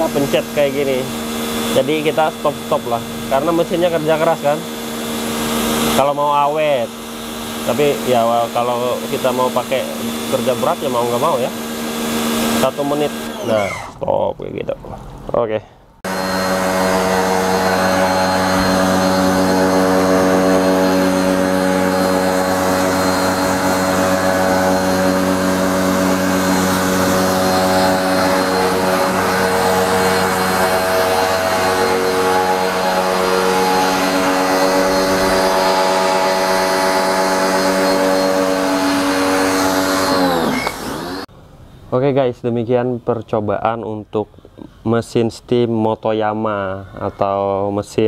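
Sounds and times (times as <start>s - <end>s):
pressure washer motor hum: 0.0s - 14.0s, 16.0s - 41.3s.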